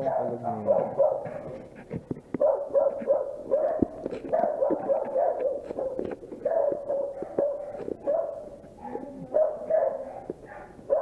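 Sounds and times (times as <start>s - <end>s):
dogs barking: 0.0s - 1.8s, 2.4s - 11.0s.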